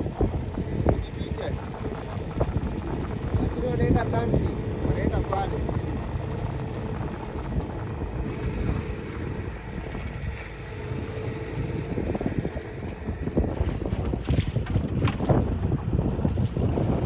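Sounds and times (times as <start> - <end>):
boat motor running: 0.0 - 17.0
wind buffeting microphone: 0.0 - 17.0.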